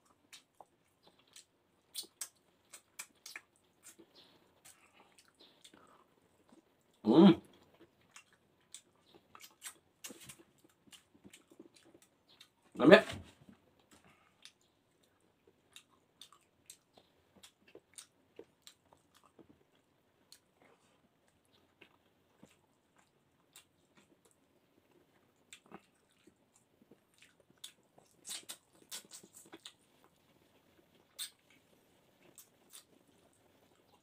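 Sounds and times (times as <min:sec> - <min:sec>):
chewing clicks and smacks: 0:00.0 - 0:12.8, 0:13.5 - 0:34.0.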